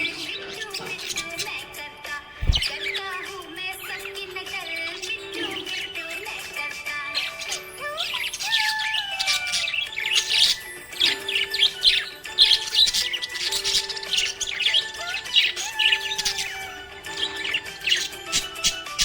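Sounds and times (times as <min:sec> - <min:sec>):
background music with gliding melody: 0:00.0 - 0:19.0
budgies chirping and twittering: 0:00.0 - 0:19.0.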